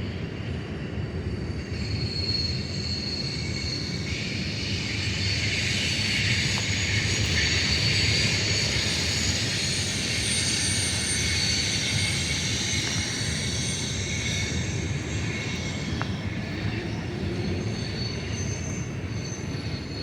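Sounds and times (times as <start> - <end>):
freight train rumbling on rails: 0.0 - 20.0
high wheel squeal: 0.8 - 20.0.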